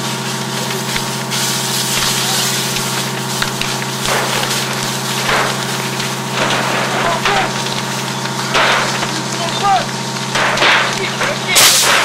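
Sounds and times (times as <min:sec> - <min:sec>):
burning wood crackling and popping: 0:00.0 - 0:12.0
hose water spraying: 0:00.0 - 0:12.0.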